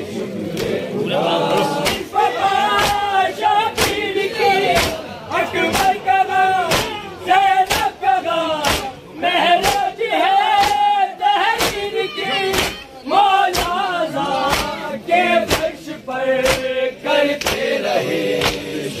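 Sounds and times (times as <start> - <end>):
crowd of men chanting: 0.0 - 19.0.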